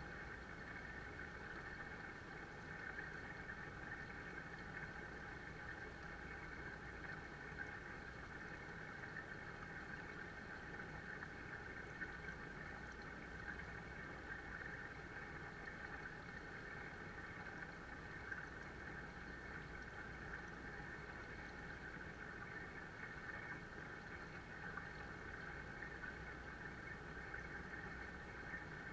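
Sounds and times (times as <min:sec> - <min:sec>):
waterfall pouring into pond: 0:00.0 - 0:28.9.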